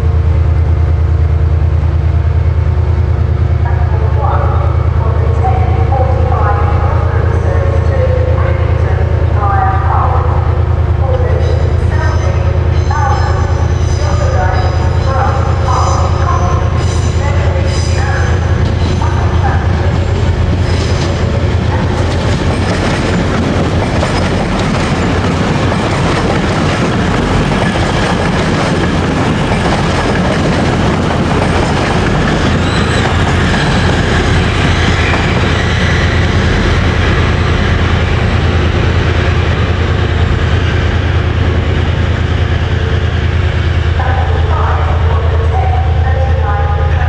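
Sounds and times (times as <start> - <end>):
rail and wheel noise: 0.0 - 47.0
train low hum: 0.0 - 47.0.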